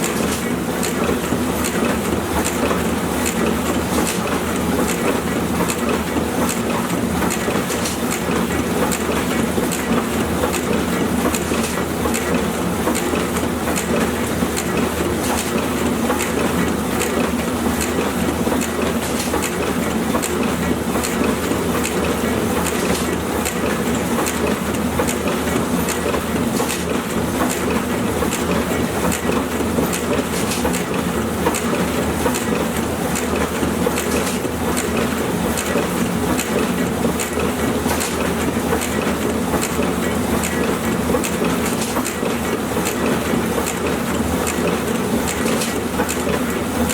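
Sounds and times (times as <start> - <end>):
printing press rumbling: 0.0 - 46.9.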